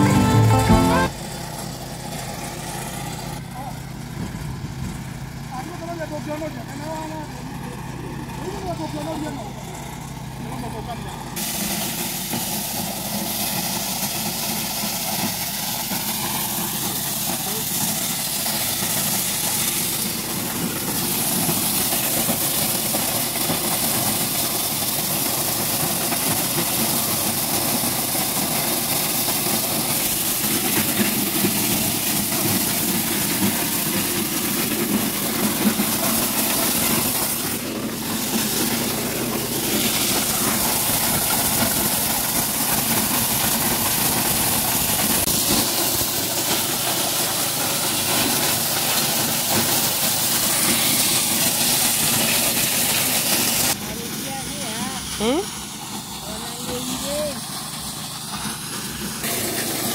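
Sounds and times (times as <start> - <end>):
maize sheller engine drone: 0.0 - 59.9.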